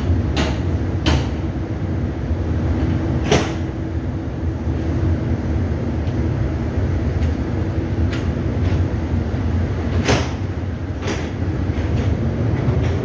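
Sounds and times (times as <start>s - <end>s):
ship engines rumbling: 0.0s - 13.0s
wind and water noise: 0.0s - 13.0s.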